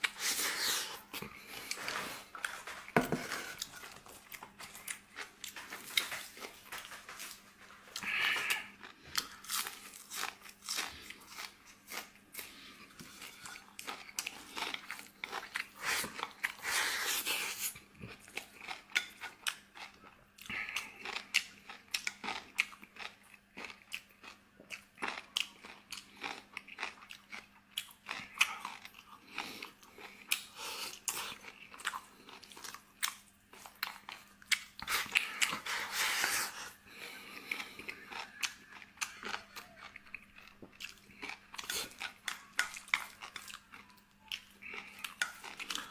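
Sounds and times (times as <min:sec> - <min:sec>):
chewing and biting: 0:03.6 - 0:45.9.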